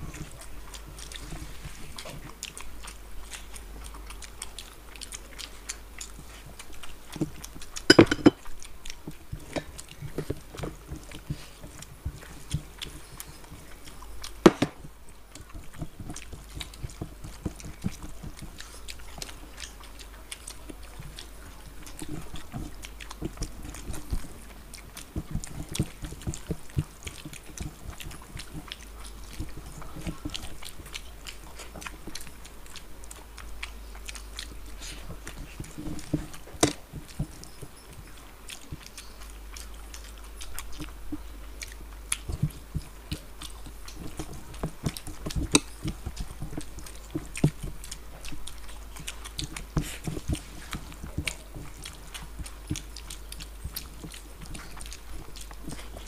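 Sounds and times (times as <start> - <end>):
people chewing: 0.0 - 56.0.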